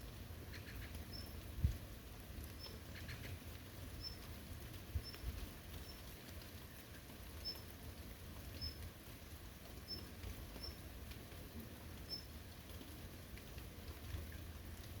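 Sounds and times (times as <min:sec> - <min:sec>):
light rain pattering: 0:00.0 - 0:15.0.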